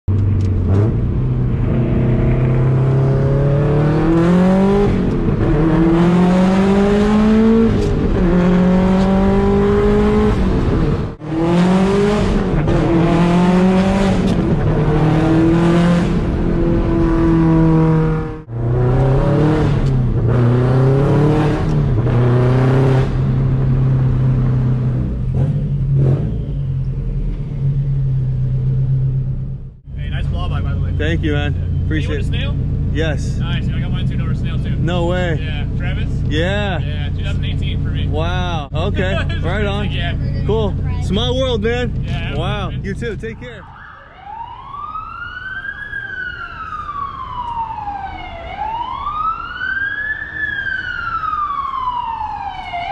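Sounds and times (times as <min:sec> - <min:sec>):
car engine revving: 0:00.1 - 0:43.6.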